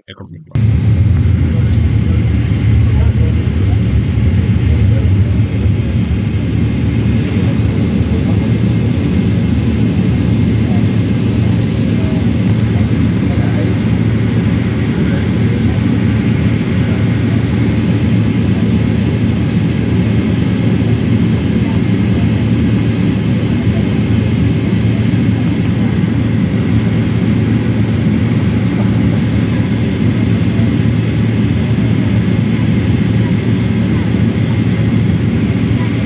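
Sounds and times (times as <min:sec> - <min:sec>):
jet engines and airflow rumble: 0:00.0 - 0:36.0.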